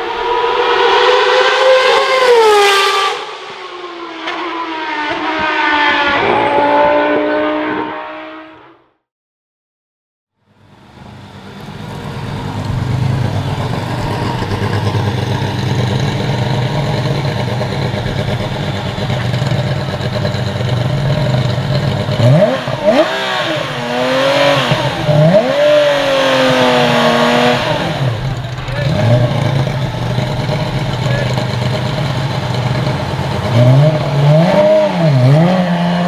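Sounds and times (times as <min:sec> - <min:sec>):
racing car engine revving: 0:00.0 - 0:08.8, 0:10.6 - 0:36.0.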